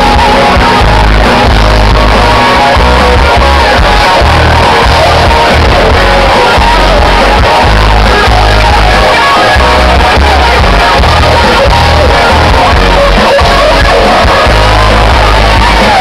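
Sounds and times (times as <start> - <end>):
live pop-rock music: 0.0 - 16.0
person singing: 0.0 - 16.0.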